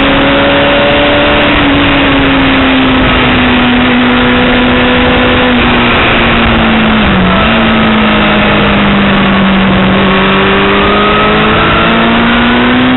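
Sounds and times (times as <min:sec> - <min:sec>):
motorcycle engine running: 0:00.0 - 0:12.9
wind rush: 0:00.0 - 0:12.9.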